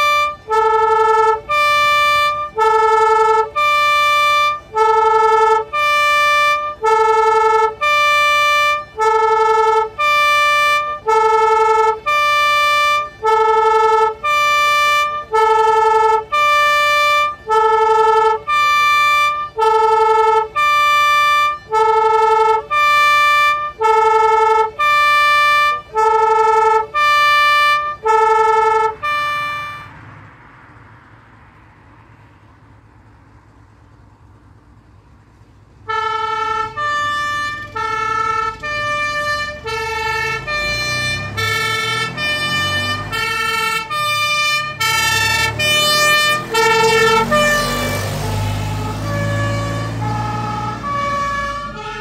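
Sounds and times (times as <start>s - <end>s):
two-tone fire engine siren: 0.0s - 30.2s, 35.8s - 52.0s
truck engine rumble: 0.0s - 52.0s.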